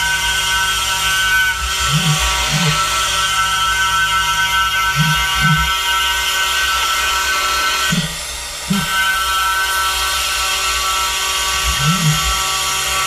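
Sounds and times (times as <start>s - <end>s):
milling spindle whining: 0.0s - 13.0s.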